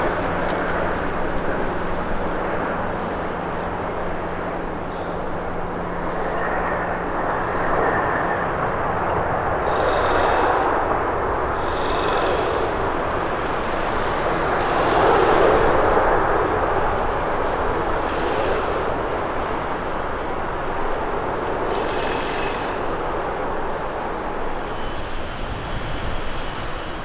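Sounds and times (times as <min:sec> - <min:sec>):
jet engine roar of landing airliner: 0:00.0 - 0:27.0.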